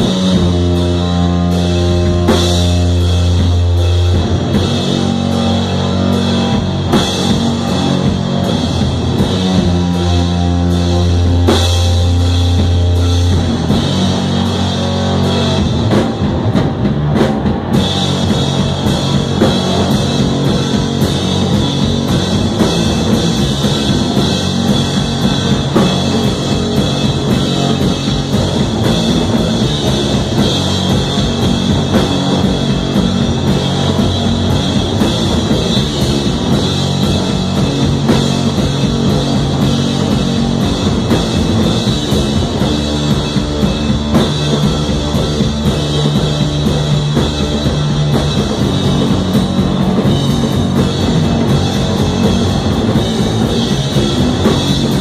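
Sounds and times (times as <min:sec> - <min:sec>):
drum kit playing: 0:00.0 - 0:55.0
electric guitar: 0:00.0 - 0:55.0.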